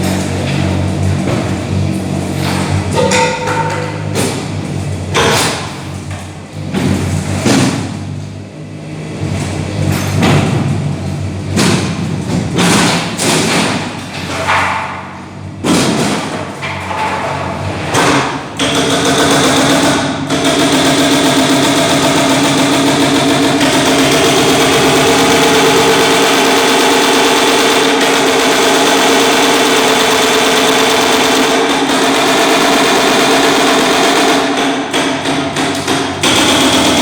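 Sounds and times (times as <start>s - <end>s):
demolition thuds and knocks: 0.0s - 8.2s, 9.3s - 37.0s
engine running steadily: 0.0s - 37.0s.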